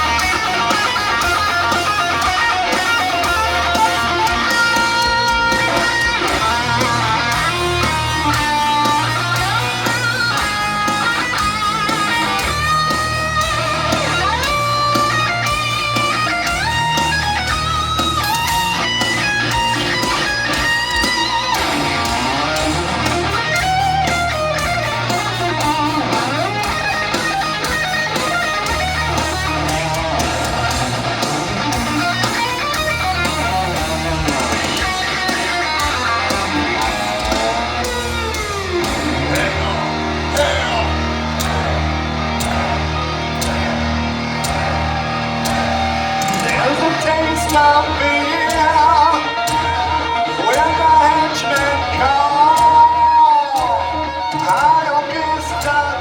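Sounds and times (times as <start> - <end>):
heavy metal band playing live: 0.0 - 56.0
lead electric guitar: 0.0 - 56.0.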